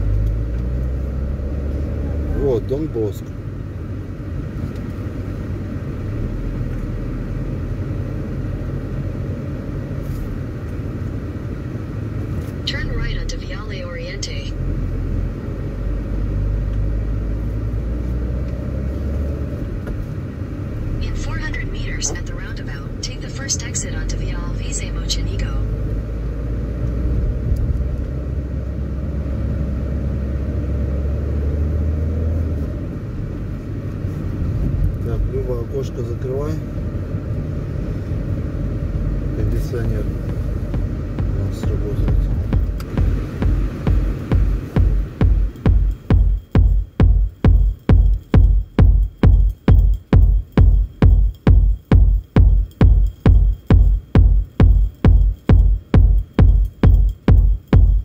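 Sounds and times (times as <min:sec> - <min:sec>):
car interior driving rumble: 0:00.0 - 0:58.0.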